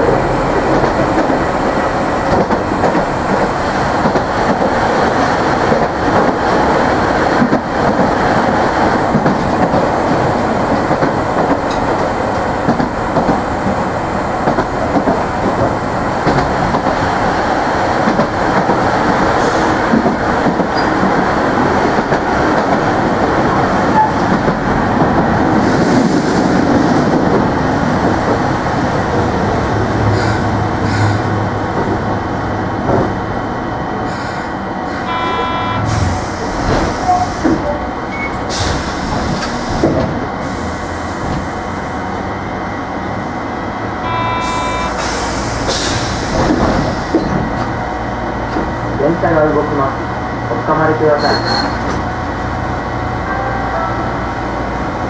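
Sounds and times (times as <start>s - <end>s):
tram wheels rumbling on rail: 0.0s - 55.0s.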